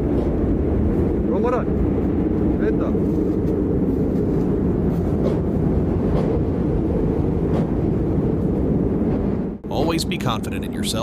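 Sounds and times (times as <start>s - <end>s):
low machine rumble: 0.0s - 10.9s.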